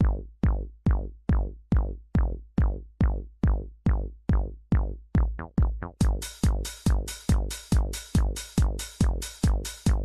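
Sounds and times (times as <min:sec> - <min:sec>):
drum machine bass kick: 0:00.0 - 0:10.0.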